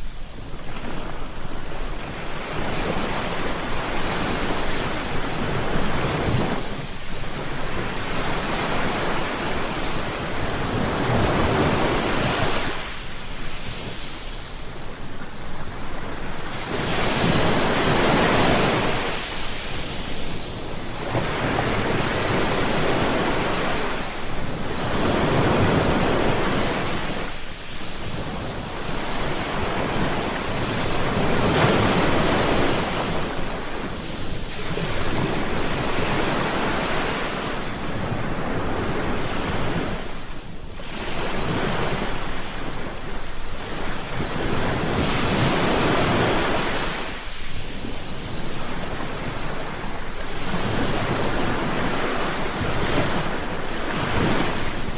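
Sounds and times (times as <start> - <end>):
ocean waves breaking ashore: 0.0 - 54.9.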